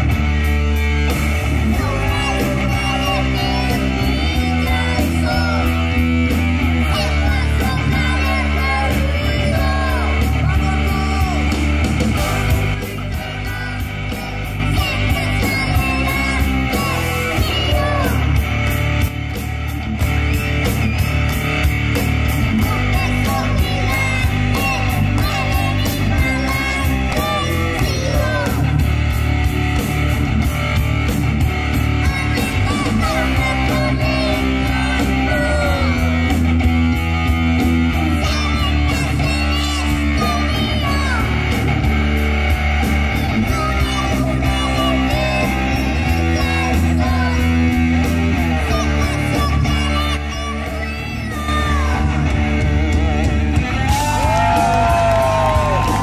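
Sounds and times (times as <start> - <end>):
sung vocals: 0.0 - 19.0, 20.4 - 56.0
distorted electric guitar: 0.0 - 56.0
drums fast steady beat: 0.0 - 56.0.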